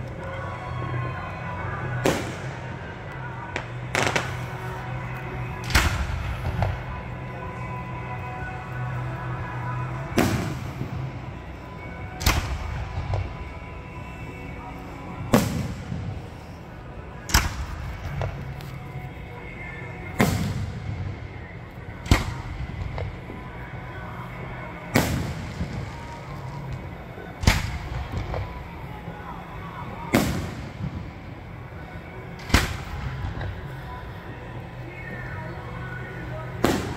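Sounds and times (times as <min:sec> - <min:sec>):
rumbling echo: 0:00.0 - 0:36.9.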